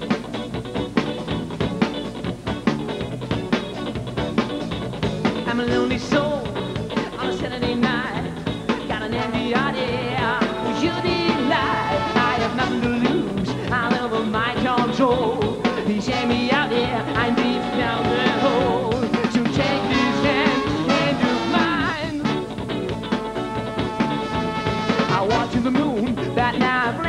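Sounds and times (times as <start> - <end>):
bass guitar: 0.0 - 27.0
drums: 0.0 - 27.0
funk rock band playing: 0.0 - 27.0.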